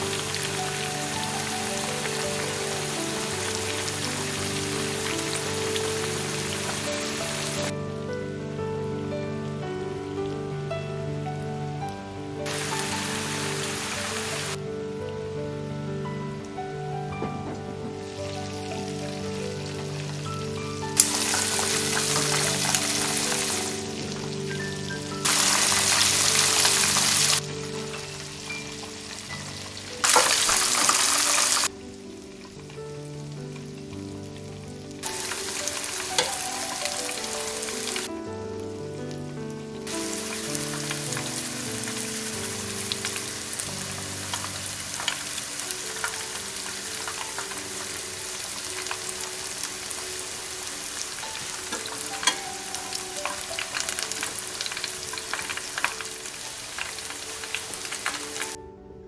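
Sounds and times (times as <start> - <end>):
chicken sizzling in oil: 0.0 - 7.8, 12.3 - 14.7, 18.0 - 38.8, 39.7 - 58.6
light background music: 0.0 - 59.0.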